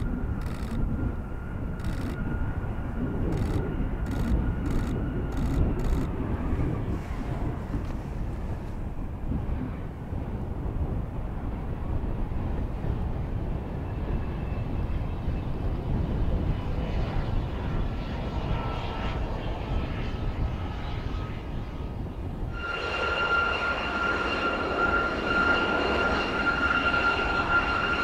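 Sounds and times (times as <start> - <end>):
faint turbine whine: 0.0 - 28.0
jet engines rumbling: 0.0 - 28.0.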